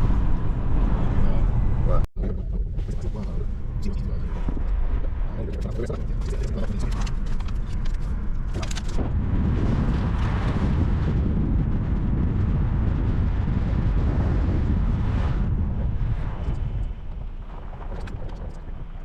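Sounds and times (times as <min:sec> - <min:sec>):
car driving rumble: 0:00.0 - 0:19.0
road and wind noise: 0:00.0 - 0:19.0.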